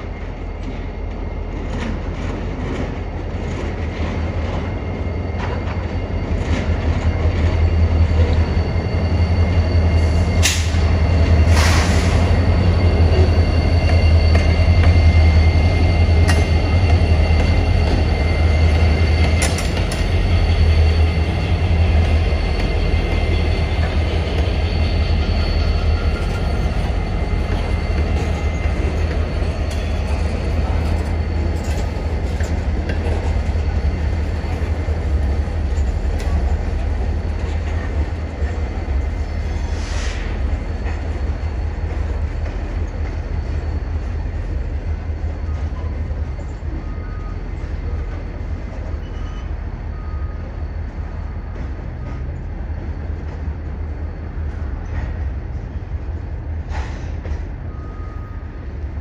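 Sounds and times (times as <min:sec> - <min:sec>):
diesel locomotives rumbling: 0:00.0 - 0:59.0
rail cars rolling on rails: 0:00.0 - 0:59.0.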